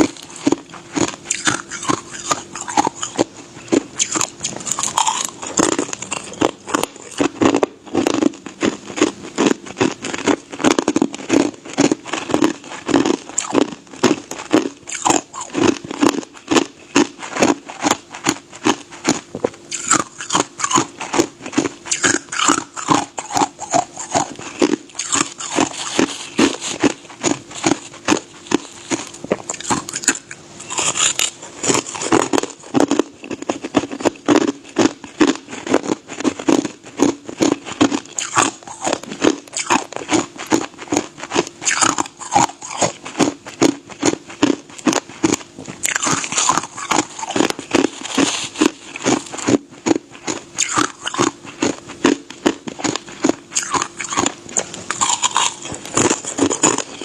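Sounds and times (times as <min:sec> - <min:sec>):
person crunching ice: 0:00.0 - 0:57.0.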